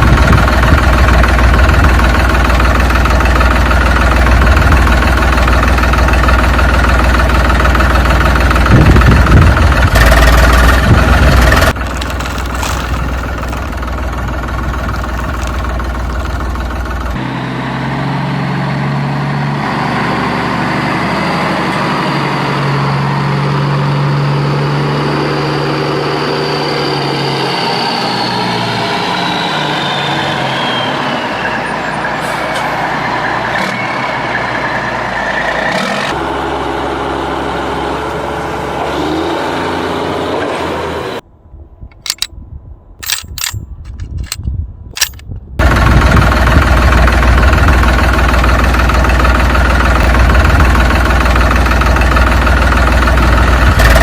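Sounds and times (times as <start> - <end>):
truck engine running: 0.0 - 41.2, 41.9 - 42.3, 43.0 - 54.0.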